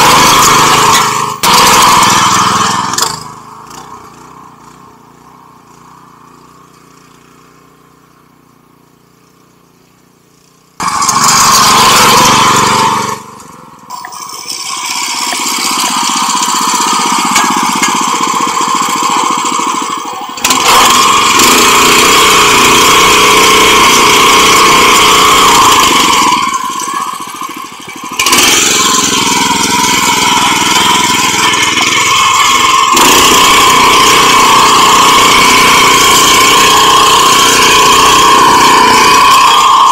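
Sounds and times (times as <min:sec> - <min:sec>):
tiller engine droning: 0:00.0 - 0:39.9.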